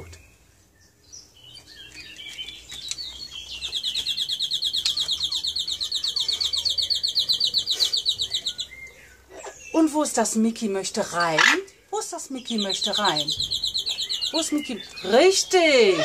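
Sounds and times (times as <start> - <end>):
bird trilling: 1.5 - 9.8, 11.1 - 16.0.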